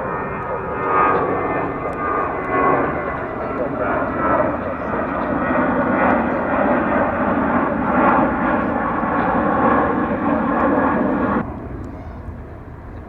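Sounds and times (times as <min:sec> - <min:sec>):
jet airliner taking off: 0:00.0 - 0:13.0.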